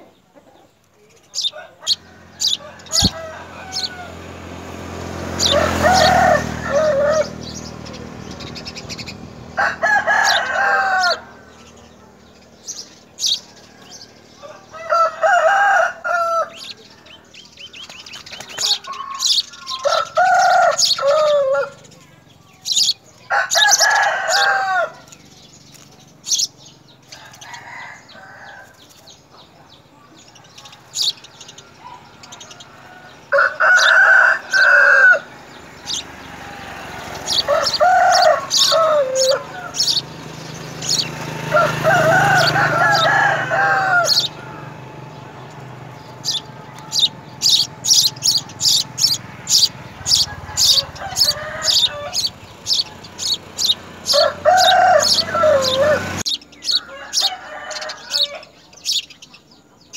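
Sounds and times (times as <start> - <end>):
chickens calling: 0.0 - 59.9
sparrows chirping: 0.0 - 59.9.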